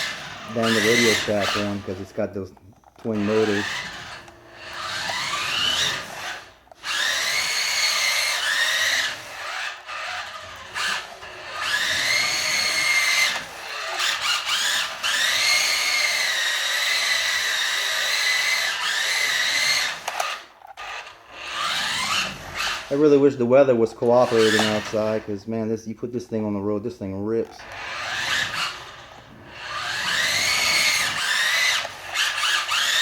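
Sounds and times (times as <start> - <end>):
electric motors whining: 0.0 - 25.5, 27.4 - 33.0.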